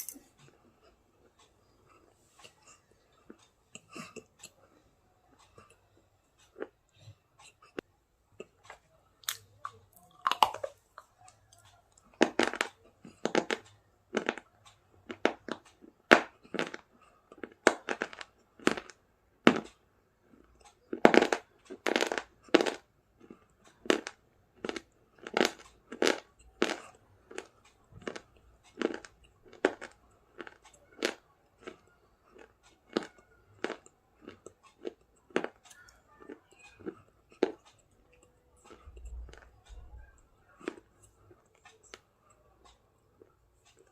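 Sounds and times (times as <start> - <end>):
crunchy food chewing: 5.4 - 43.9.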